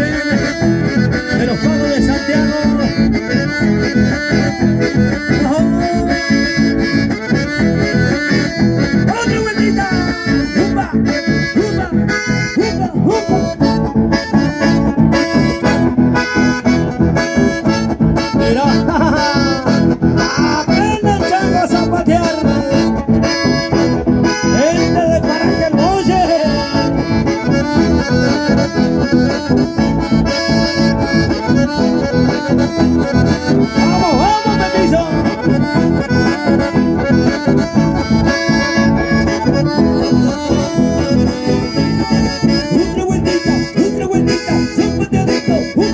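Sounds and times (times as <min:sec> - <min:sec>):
accordion dance music: 0:00.0 - 0:45.9.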